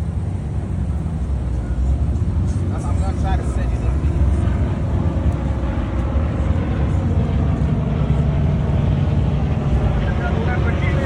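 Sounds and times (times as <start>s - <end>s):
car engine idling low rumble: 0.0s - 11.0s.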